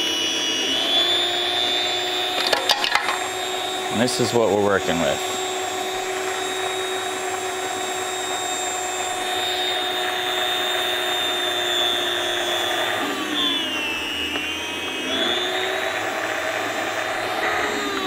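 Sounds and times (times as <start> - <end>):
meat slicer motor whine: 0.0 - 18.0.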